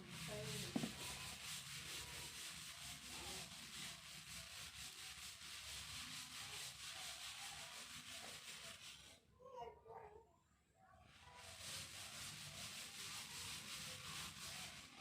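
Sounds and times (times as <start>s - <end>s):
faint rubbing and scraping: 0.0s - 9.3s, 11.0s - 15.0s.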